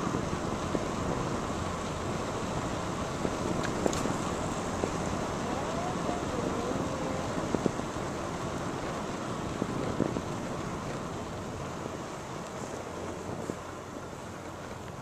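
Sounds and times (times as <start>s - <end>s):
wind rushing on microphone: 0.0s - 14.2s.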